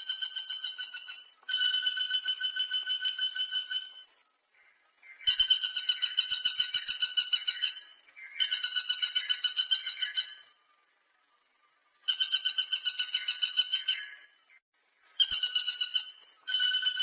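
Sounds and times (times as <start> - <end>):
woodpecker calling: 0.0 - 10.7, 11.8 - 14.6, 15.2 - 17.0.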